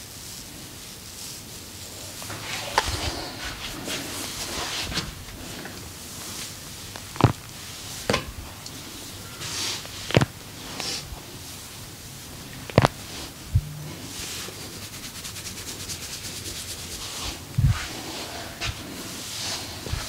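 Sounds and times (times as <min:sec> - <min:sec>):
soft rubbing and rustling: 0:00.0 - 0:20.0.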